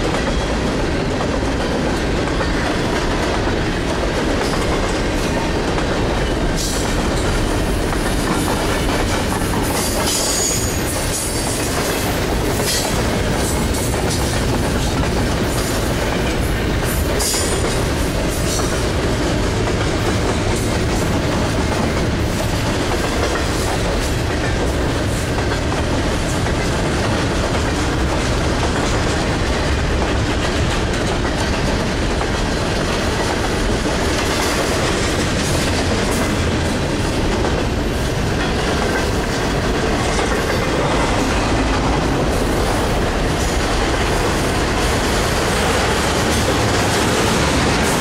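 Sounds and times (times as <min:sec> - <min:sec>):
freight train wheels on rails: 0:00.0 - 0:48.0.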